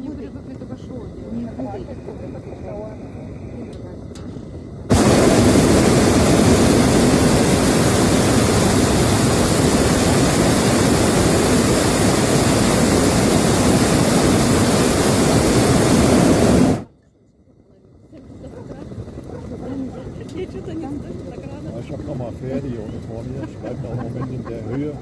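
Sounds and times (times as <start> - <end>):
propane burner roaring: 0.0 - 16.9, 17.7 - 25.0.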